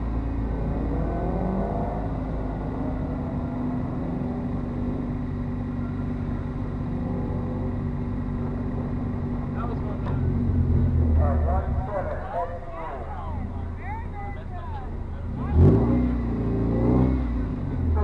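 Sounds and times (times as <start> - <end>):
car engine accelerating: 0.0 - 18.0
low engine hum: 0.0 - 18.0.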